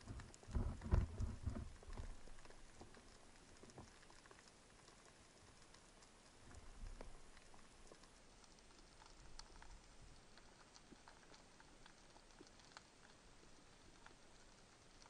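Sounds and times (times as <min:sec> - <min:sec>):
faint low rumble: 0:00.0 - 0:15.0
underwater clicks and crackles: 0:00.0 - 0:15.0.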